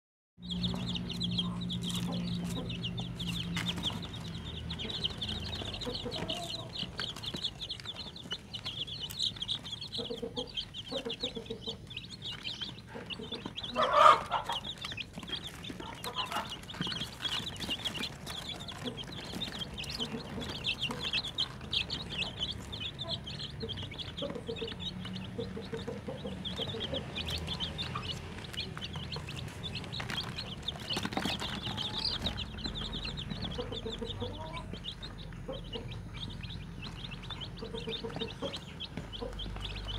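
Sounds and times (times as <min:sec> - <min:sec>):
chicks peeping: 0:00.4 - 0:39.9.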